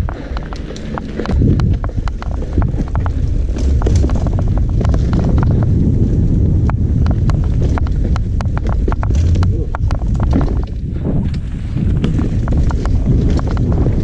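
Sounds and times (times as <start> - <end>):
bike clicks and rattles: 0.0 - 14.0
low tyre rumble: 0.0 - 14.0
wind buffeting microphone: 0.0 - 14.0.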